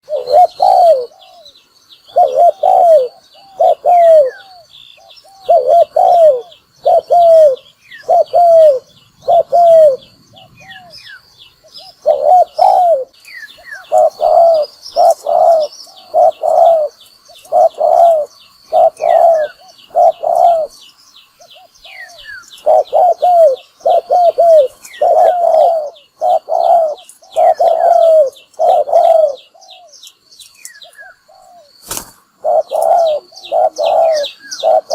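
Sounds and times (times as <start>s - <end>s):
dove cooing: 0.0s - 30.0s, 30.7s - 34.9s
faint high chirping: 0.0s - 34.9s.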